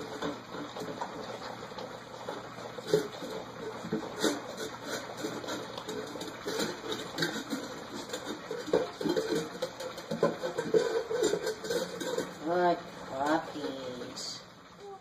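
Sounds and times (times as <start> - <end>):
puppies lapping and slurping: 0.0 - 15.0.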